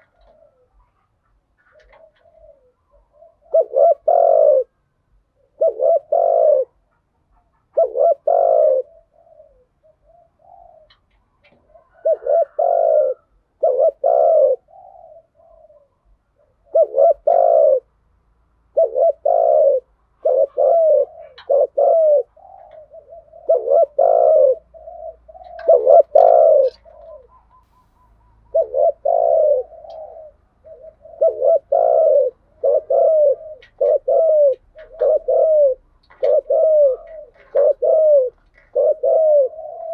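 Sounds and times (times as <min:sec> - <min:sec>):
doves cooing: 0:00.0 - 0:18.0, 0:18.6 - 0:39.9.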